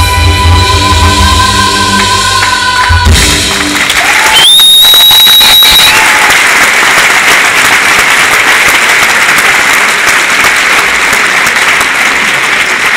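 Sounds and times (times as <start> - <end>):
audience applauding: 2.0 - 12.9.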